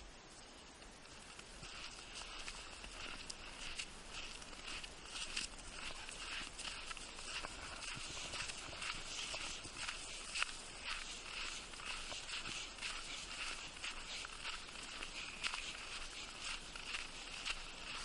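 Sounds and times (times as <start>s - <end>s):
footsteps crunching through snow: 1.0s - 18.0s.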